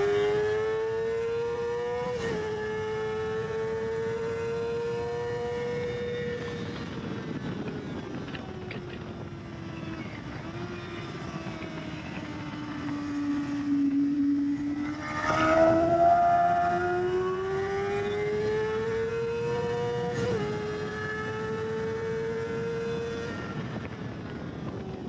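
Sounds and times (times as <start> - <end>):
motorcycle engine at high revs: 0.0 - 25.0
wind noise: 0.0 - 25.0.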